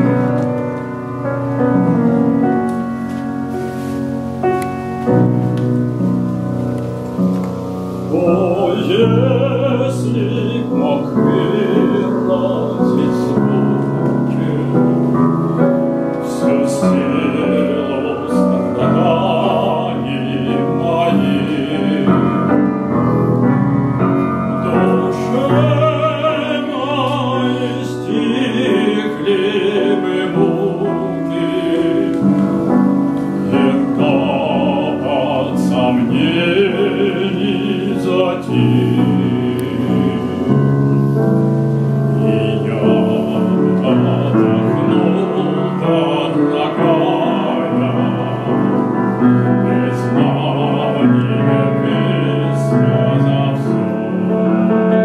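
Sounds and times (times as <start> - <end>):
grand piano: 0.0 - 55.0
man singing operatically: 8.0 - 23.5, 24.2 - 55.0.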